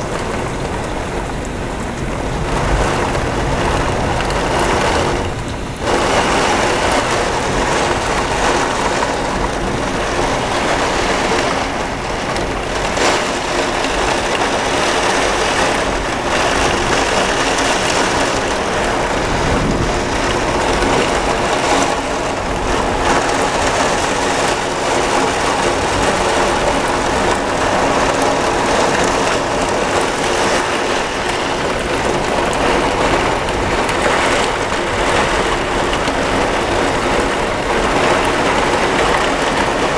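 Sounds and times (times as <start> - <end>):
heavy rain and wind roar: 0.0 - 39.9.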